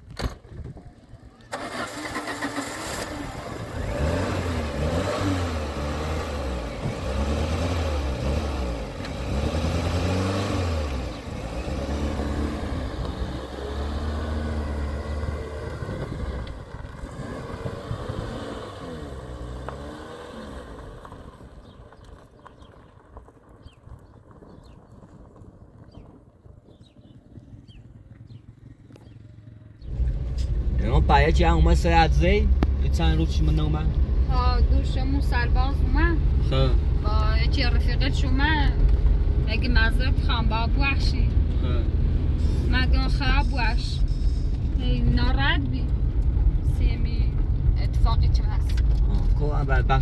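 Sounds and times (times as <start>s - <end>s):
vehicle engine revving: 1.5s - 22.8s, 26.8s - 50.0s.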